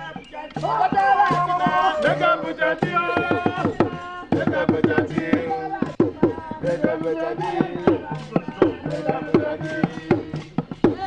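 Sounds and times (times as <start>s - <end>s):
rhythmic percussion strikes: 0.0s - 11.0s
voices singing: 0.0s - 11.0s.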